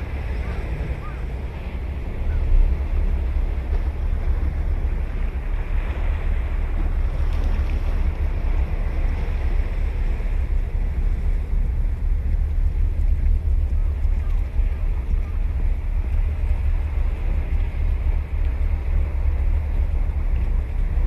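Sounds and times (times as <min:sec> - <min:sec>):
ocean waves washing onto beach: 0:00.0 - 0:21.0
wind buffeting microphone: 0:00.0 - 0:21.0.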